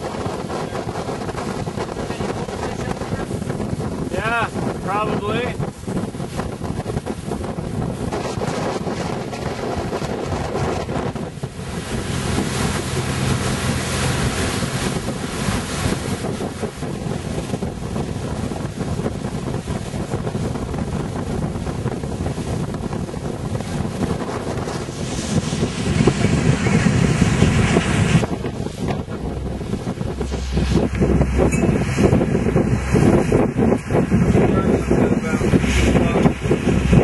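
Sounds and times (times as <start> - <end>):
water rushing past boat: 0.0 - 37.0
wind buffeting microphone: 0.0 - 37.0.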